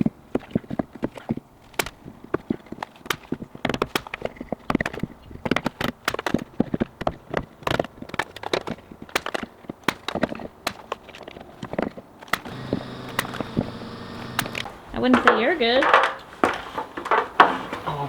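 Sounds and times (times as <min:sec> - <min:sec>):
sharp knocks and clicks: 0:00.3 - 0:17.6.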